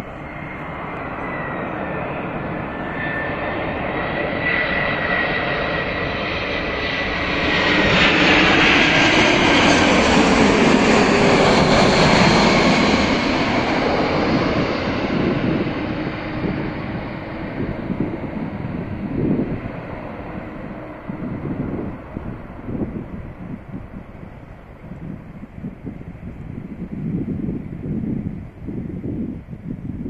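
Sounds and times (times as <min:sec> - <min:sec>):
jet airliner rumble and whine: 0:00.0 - 0:30.0.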